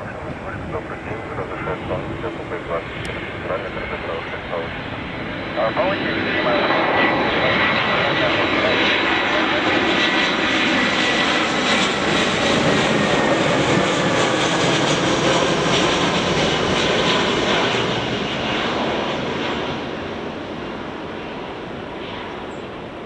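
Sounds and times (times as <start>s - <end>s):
airliner jet engines passing: 0.0s - 23.0s.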